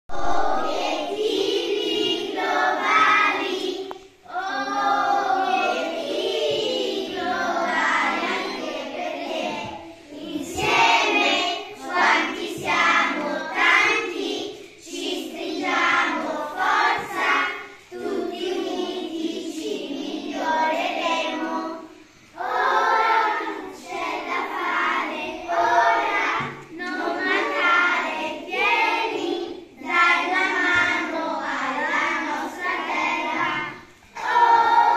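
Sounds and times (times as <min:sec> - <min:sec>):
children singing together: 0:00.1 - 0:34.9.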